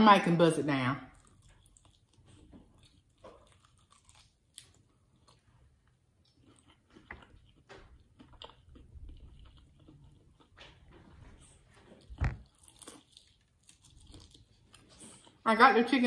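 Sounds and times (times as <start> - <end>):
crunching on fried chicken: 1.1 - 10.8, 11.9 - 15.4.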